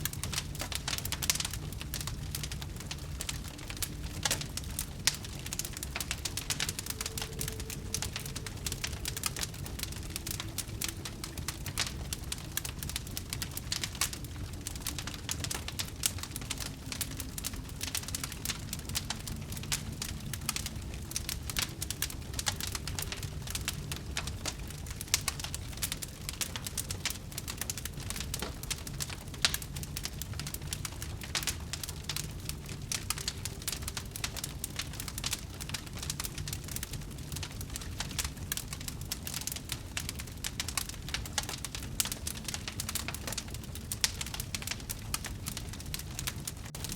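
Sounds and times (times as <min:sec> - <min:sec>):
fire crackling and popping: 0:00.0 - 0:46.9
low rumble of flames: 0:00.0 - 0:46.9.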